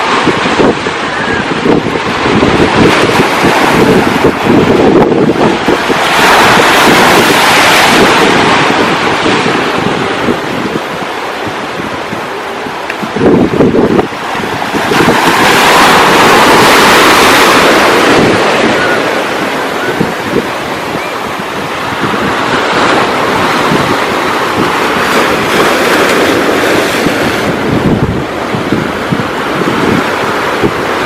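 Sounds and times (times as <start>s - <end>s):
ocean wave breaking: 0.0s - 31.0s
water rushing: 0.0s - 31.0s
wind buffeting microphone: 0.0s - 31.0s.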